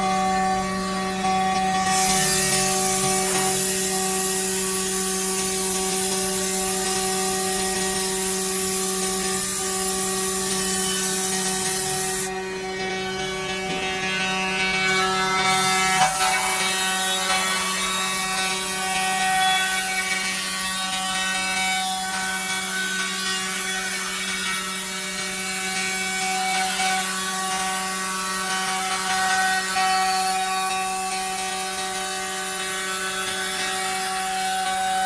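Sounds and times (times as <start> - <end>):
drilling machine motor whine: 0.0 - 35.0.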